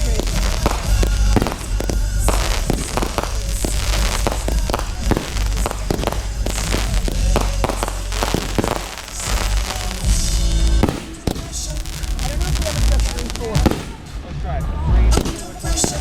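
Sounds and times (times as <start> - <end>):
fireworks bangs and booms: 0.0 - 16.0
music playing: 0.0 - 16.0.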